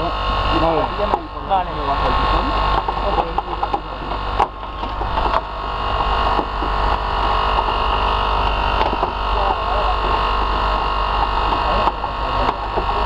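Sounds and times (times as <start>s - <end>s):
hydraulic power unit motor hum: 0.0s - 13.0s
hydraulic cutter cracking metal: 0.8s - 13.0s.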